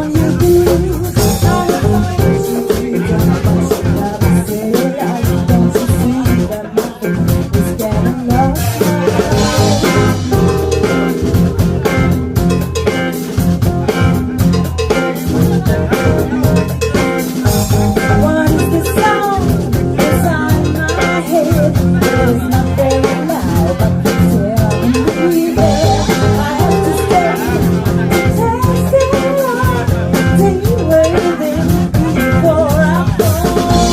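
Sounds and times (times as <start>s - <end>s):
music with drums and singing: 0.0s - 33.9s.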